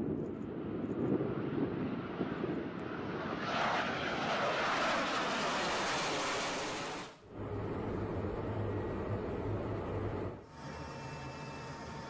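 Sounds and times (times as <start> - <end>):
jet engines passing overhead: 0.0 - 12.0.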